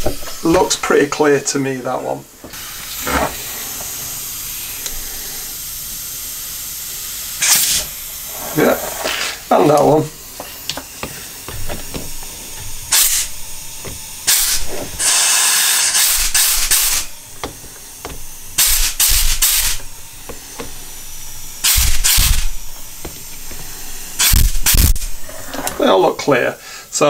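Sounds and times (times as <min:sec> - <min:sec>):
air blow gun hissing blasts: 0:00.0 - 0:27.0.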